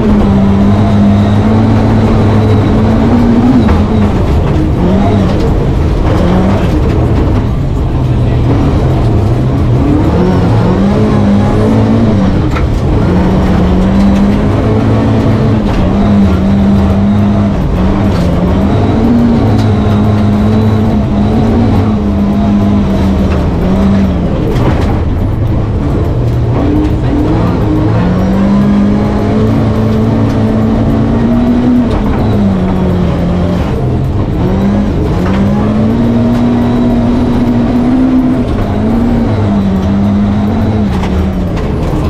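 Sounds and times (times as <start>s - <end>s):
car engine at high revs: 0.0s - 42.0s
tyres on snowy road: 0.0s - 42.0s.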